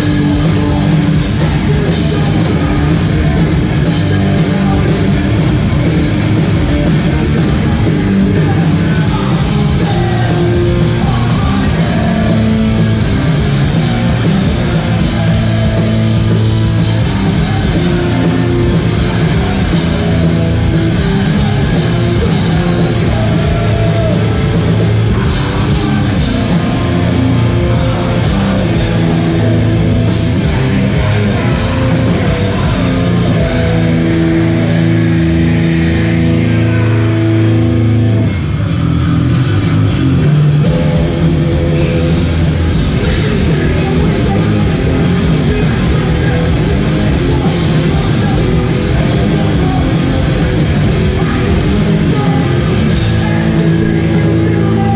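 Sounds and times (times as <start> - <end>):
heavy rock band playing live: 0.0 - 54.9.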